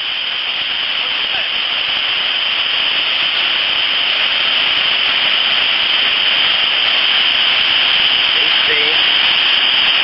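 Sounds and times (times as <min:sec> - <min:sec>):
whitewater river rushing: 0:00.0 - 0:10.0.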